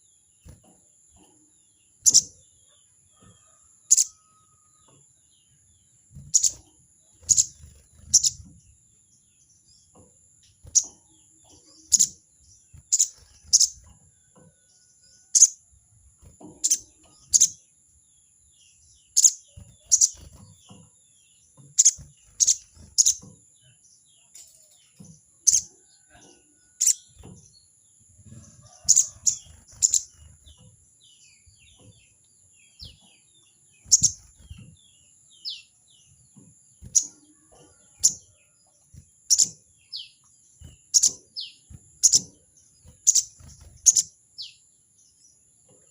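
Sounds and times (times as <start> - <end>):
soft bird chirps: 0.0 - 45.9.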